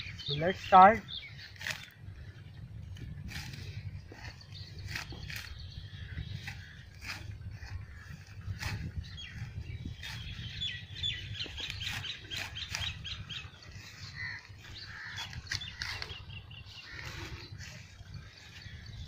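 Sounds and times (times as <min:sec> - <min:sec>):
small birds chirping: 0:00.0 - 0:19.0
steady low rumble: 0:00.0 - 0:19.0
sickle cutting crop stalks: 0:00.1 - 0:19.0.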